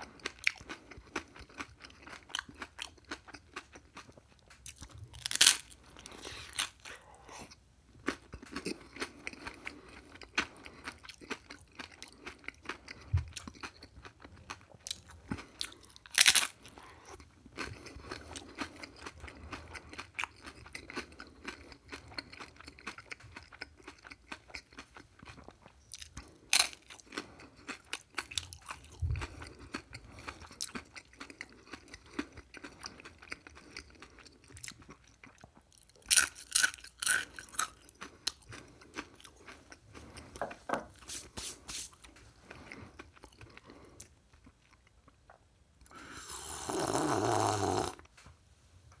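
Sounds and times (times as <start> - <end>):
chewing crisp fried food: 0.0 - 48.1.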